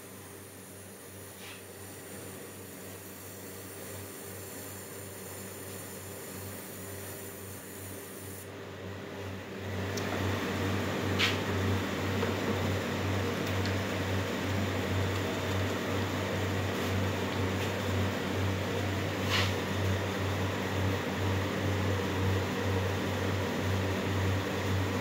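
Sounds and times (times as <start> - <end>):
machine whirring with low hum: 0.0 - 25.0.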